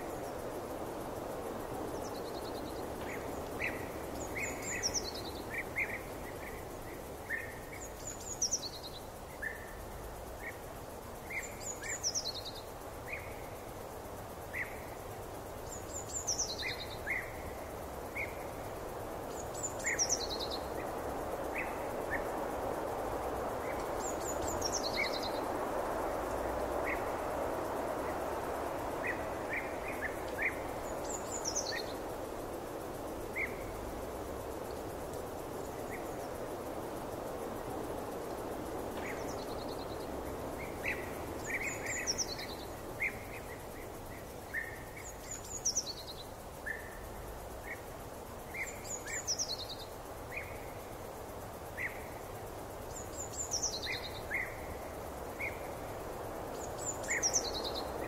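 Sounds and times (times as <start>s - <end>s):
songbirds calling: 0.0s - 58.0s.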